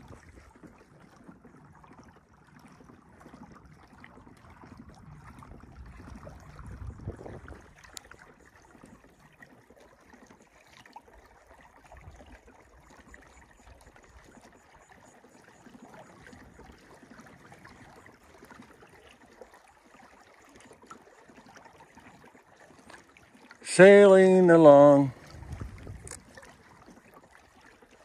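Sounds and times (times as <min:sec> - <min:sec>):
water lapping against hull: 0:00.0 - 0:28.0.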